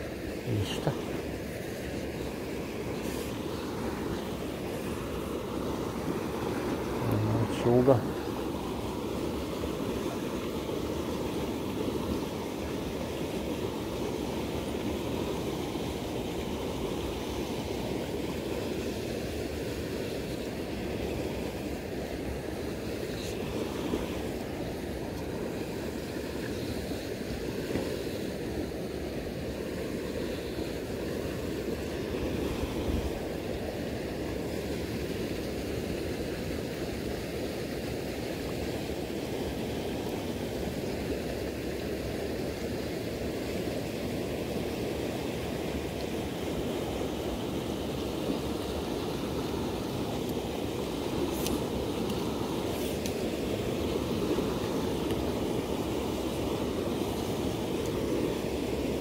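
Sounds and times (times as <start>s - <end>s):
river rushing over riffle: 0.0s - 59.0s.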